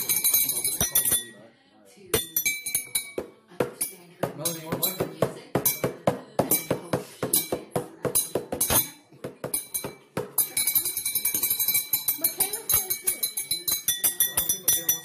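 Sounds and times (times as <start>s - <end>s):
glasses struck with metal utensil: 0.0s - 1.4s, 2.2s - 15.0s.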